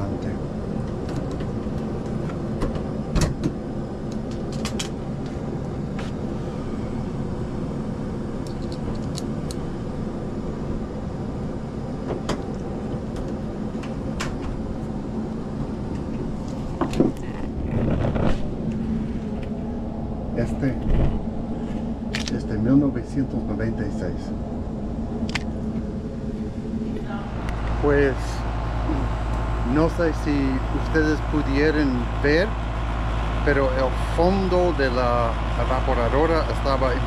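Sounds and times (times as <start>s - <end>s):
air handler humming: 0.0s - 37.0s.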